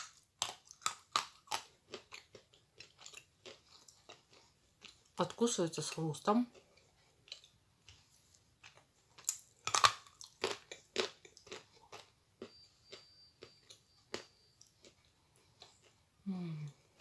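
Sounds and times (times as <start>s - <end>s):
chewing and crunching clay: 0.0s - 17.0s.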